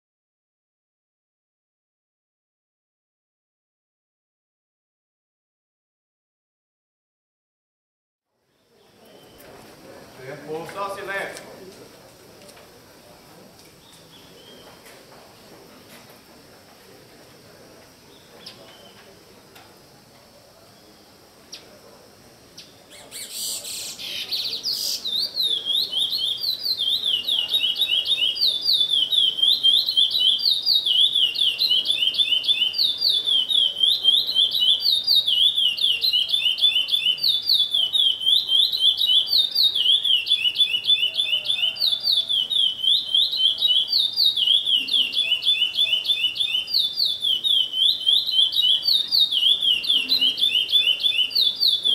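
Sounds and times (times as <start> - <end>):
songbird chirping: 8.4 - 51.9.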